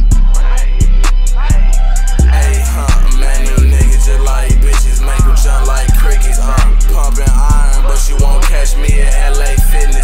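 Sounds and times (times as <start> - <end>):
deep sustained bass: 0.0 - 10.0.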